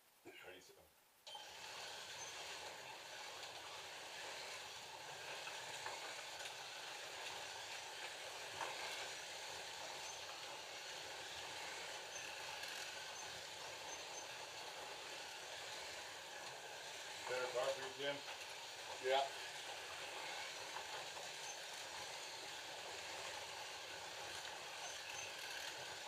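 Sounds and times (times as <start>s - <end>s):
slot car motors whirring: 1.3s - 26.0s.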